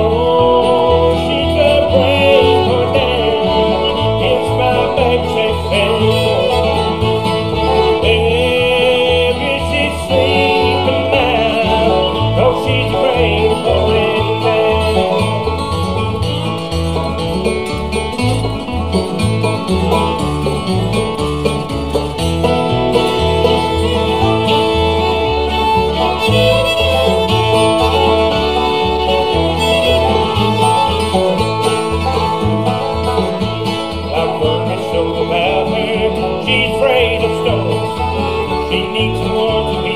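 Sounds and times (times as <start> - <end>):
acoustic guitar: 0.0 - 39.9
banjo: 0.0 - 39.9
bass guitar: 0.0 - 39.9
fiddle: 0.0 - 39.9.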